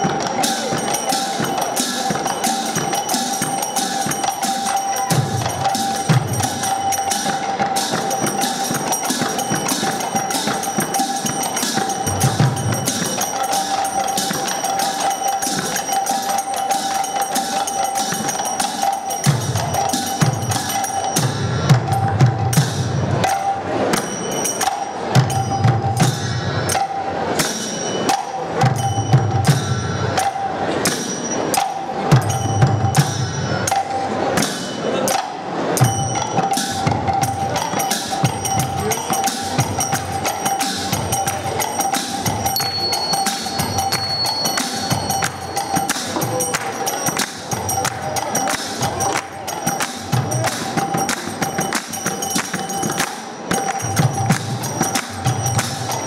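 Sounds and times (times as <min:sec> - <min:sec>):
barrel drums playing fast rhythms: 0:00.0 - 0:56.0
hand cymbals ringing: 0:00.0 - 0:56.0.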